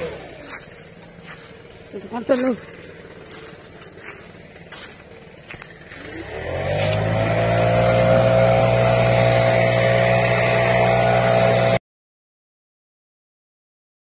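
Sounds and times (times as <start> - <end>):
engine revving: 0.0 - 11.8.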